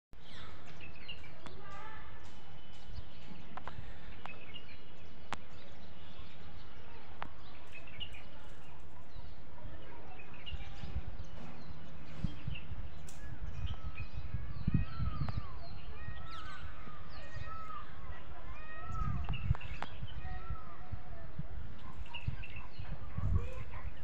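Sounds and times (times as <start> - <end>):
outdoor background noise: 0.2 - 24.0
small birds chirping: 0.2 - 24.0
low rumbles on microphone: 0.3 - 24.0.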